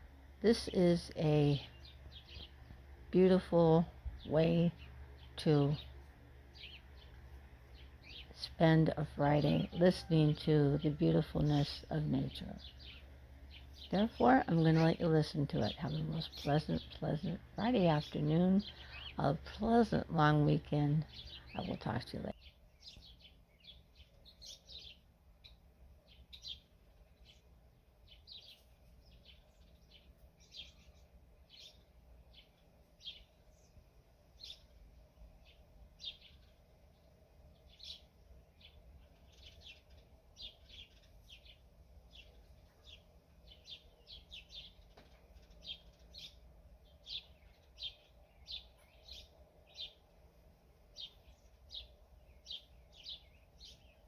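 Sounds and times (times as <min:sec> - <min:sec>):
faint songbirds chirping: 0:00.0 - 0:54.0.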